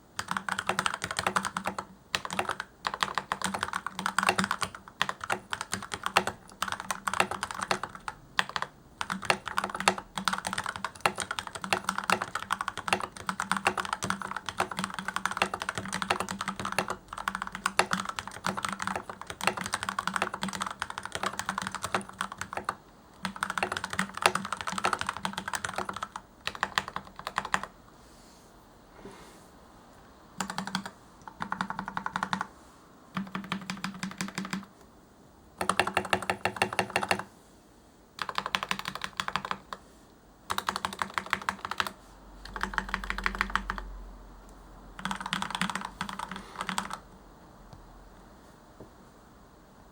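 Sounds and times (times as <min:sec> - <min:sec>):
fast typing on mechanical keyboard: 0:00.2 - 0:27.7, 0:30.4 - 0:32.5, 0:33.1 - 0:34.7, 0:35.6 - 0:37.3, 0:38.2 - 0:39.8, 0:40.5 - 0:43.9, 0:45.0 - 0:47.0.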